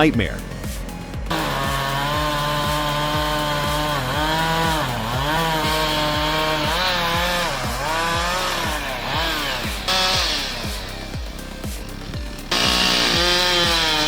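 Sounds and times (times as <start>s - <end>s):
chainsaw running at high revs: 0.4s - 14.0s.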